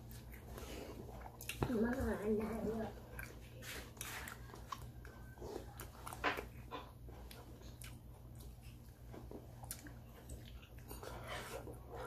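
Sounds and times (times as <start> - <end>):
wet chewing and lip-smacking: 0.0 - 11.9.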